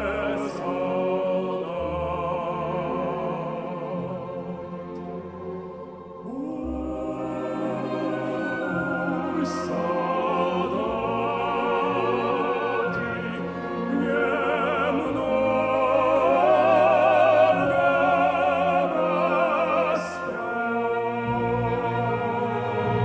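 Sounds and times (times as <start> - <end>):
symphony orchestra chords: 0.0 - 23.0.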